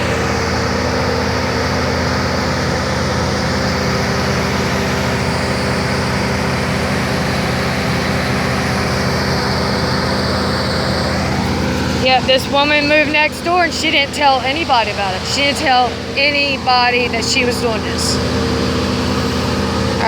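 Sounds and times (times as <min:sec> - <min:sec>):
large engine running: 0:00.0 - 0:20.0.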